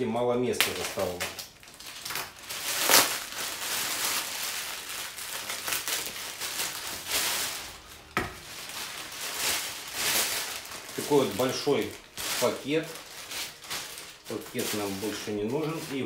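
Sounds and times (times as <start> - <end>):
plastic bag rustling: 0.6 - 16.0.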